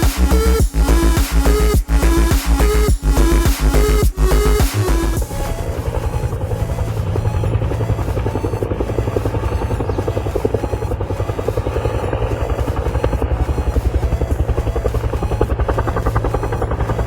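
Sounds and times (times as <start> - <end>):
helicopter engine hum: 0.0 - 17.0
helicopter rotor chopping: 0.0 - 17.0.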